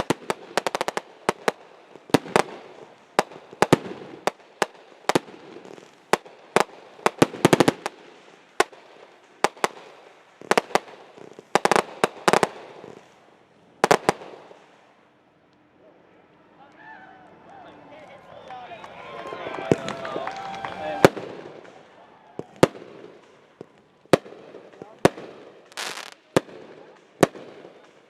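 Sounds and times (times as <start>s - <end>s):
fireworks bangs and cracks: 0.0s - 16.8s, 17.8s - 28.0s
fireworks crackling: 0.0s - 28.0s.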